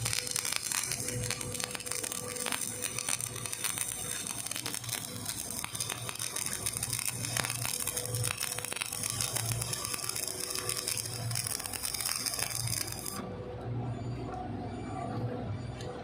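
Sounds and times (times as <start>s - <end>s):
welding arc crackling: 0.0s - 13.2s.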